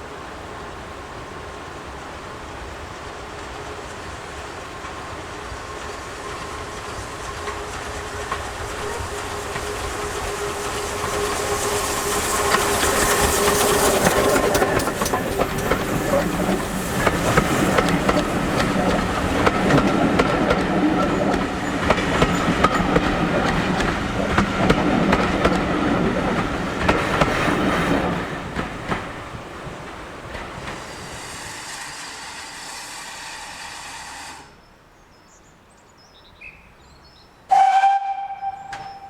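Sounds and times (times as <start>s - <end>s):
train running rumble: 0.0s - 34.6s
wheels clicking over rail joints: 0.8s - 34.6s.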